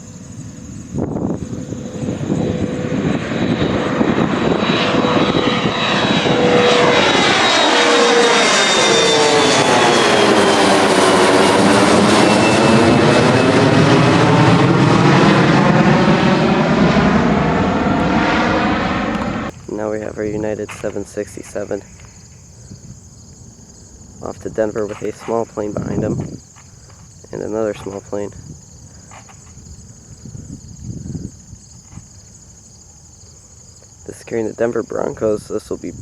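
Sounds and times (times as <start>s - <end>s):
jet engines roaring: 0.0s - 33.4s.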